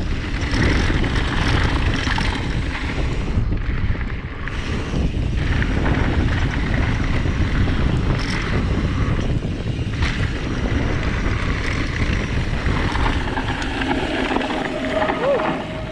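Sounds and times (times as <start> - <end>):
bike rattling over bumps: 0.0 - 15.9
wind buffeting microphone: 0.0 - 15.9.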